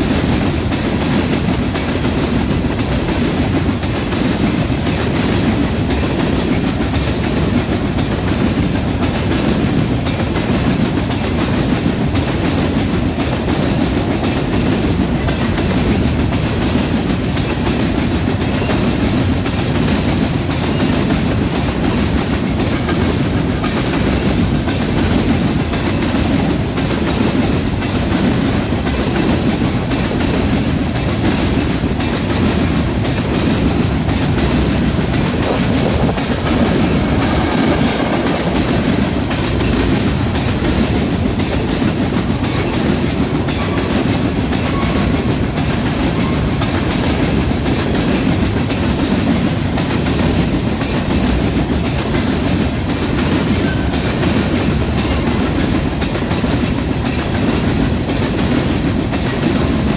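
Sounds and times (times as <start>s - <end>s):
freight train wheels rumbling: 0.0s - 59.9s
wheels clickety-clack: 0.0s - 59.9s.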